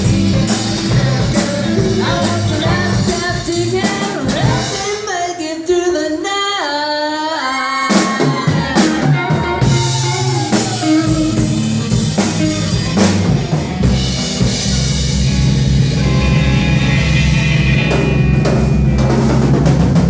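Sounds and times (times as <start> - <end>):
bass line: 0.0 - 5.0, 7.9 - 20.0
drum kit: 0.0 - 5.1, 7.8 - 20.0.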